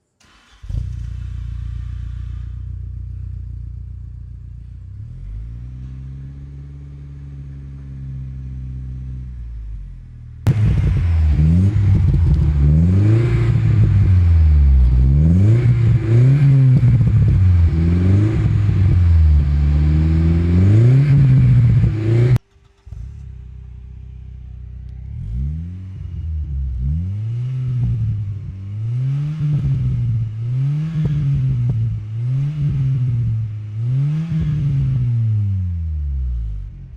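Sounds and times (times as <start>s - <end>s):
car engine idling and revving: 0.0s - 36.9s.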